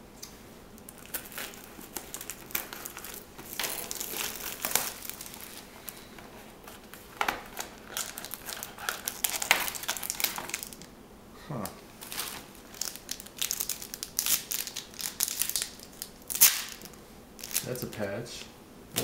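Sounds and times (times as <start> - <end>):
card packaging crinkling: 0.8 - 10.9, 12.0 - 17.9.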